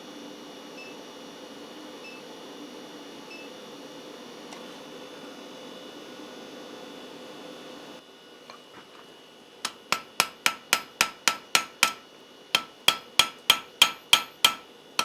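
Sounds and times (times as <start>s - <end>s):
forge electrical hum and fan: 0.0s - 15.0s.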